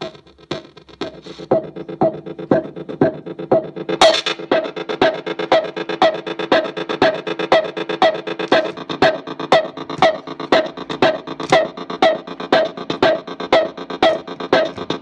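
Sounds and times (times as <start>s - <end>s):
glitchy electronic drum beat: 0.0s - 15.0s.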